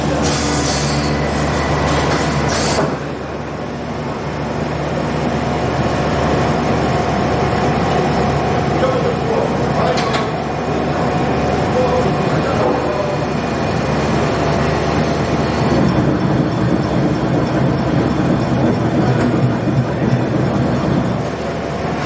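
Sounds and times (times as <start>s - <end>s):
slicing machine running: 0.0s - 22.0s.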